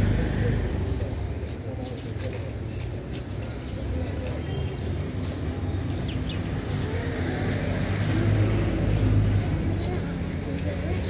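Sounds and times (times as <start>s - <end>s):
faint background voices: 0.0s - 11.0s.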